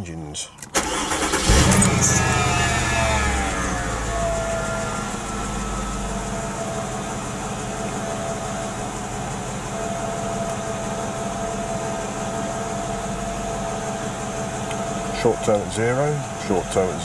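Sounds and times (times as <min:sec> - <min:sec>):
car engine idling: 0:00.7 - 0:17.0
high whine: 0:01.4 - 0:17.0.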